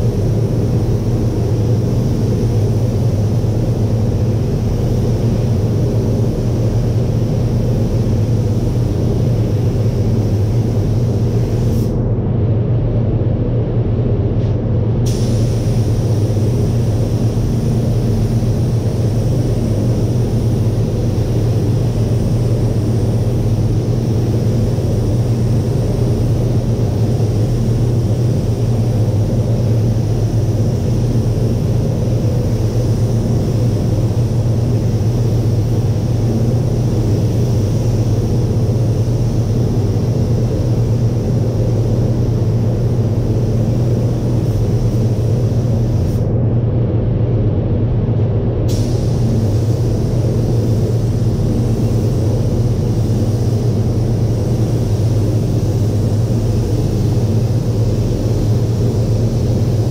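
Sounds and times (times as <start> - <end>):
spray gun hissing: 0.0 - 12.0, 15.1 - 46.2, 48.7 - 59.9
fans rumbling: 0.0 - 59.9.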